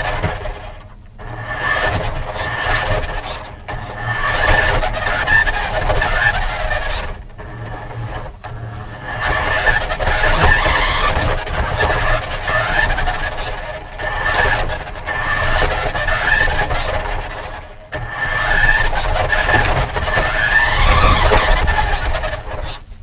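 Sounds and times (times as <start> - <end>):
toy car motor whine: 0.0 - 22.9
rattle of tyres and chassis: 0.0 - 23.0.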